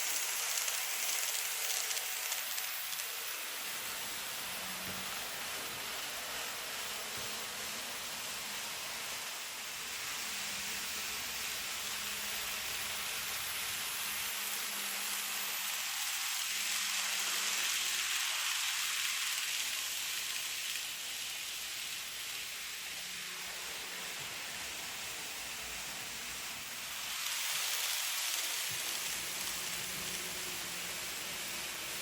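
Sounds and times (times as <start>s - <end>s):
model train running on track: 0.0s - 32.0s.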